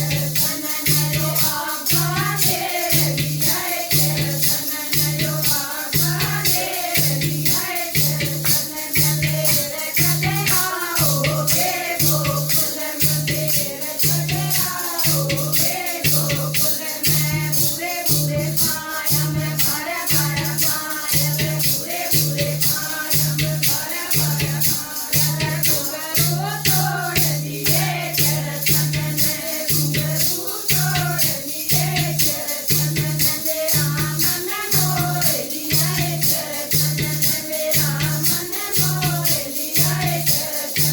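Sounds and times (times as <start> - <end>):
person singing devotional song: 0.0 - 40.9
rattling jingling percussion: 0.0 - 40.9.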